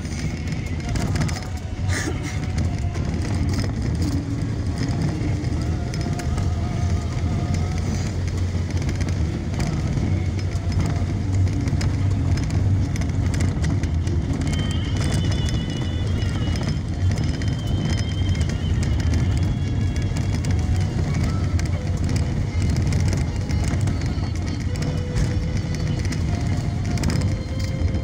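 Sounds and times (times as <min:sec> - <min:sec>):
vehicle on gravel road: 0:00.0 - 0:28.0.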